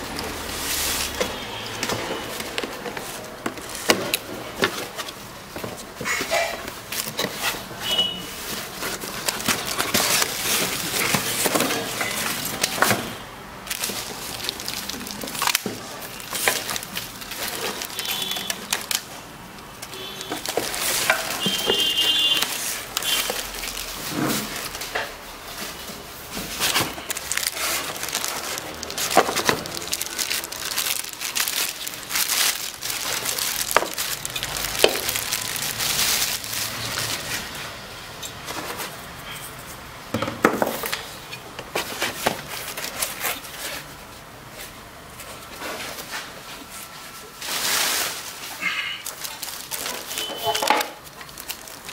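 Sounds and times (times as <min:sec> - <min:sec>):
plastic wrap crinkling: 0:00.0 - 0:39.1, 0:41.7 - 0:51.9.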